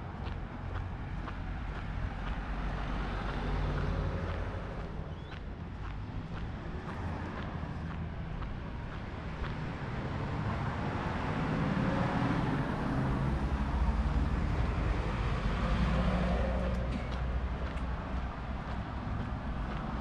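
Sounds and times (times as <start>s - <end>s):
truck engine rumble: 0.0s - 20.0s.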